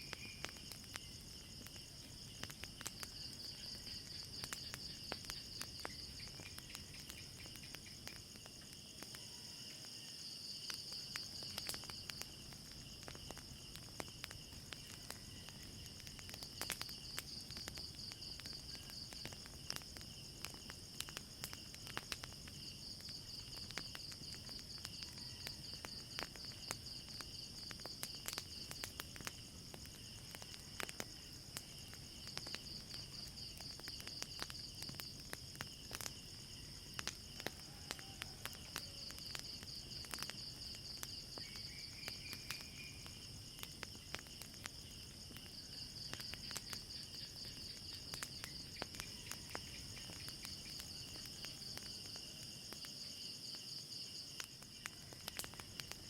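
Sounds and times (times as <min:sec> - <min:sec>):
crickets chirping: 0:00.0 - 0:56.0
fire crackling: 0:00.0 - 0:56.0.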